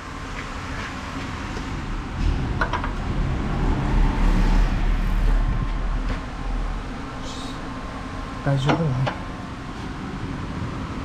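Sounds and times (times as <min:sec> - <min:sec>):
low rumble of a vehicle: 0:00.0 - 0:11.0.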